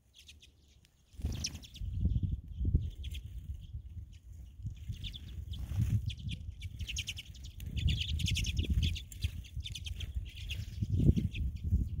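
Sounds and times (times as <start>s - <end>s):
songbirds chirping and twittering: 0.0s - 12.0s
low rumble on microphone: 1.8s - 12.0s.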